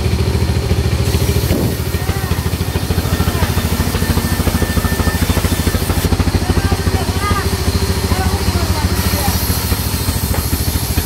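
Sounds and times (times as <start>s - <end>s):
diesel engine running: 0.0s - 11.0s
saw blade cutting wood: 1.1s - 11.0s.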